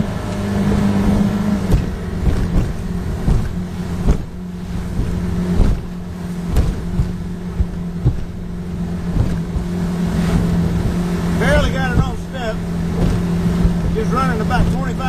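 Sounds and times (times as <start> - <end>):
boat motor droning: 0.0 - 15.0
hull knocking on waves: 0.0 - 15.0.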